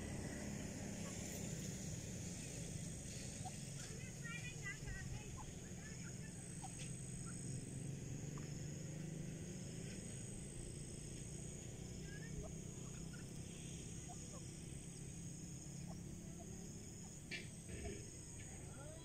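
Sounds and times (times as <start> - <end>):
francolin chirping calls: 0.0 - 19.0
steady low hum: 0.0 - 19.0.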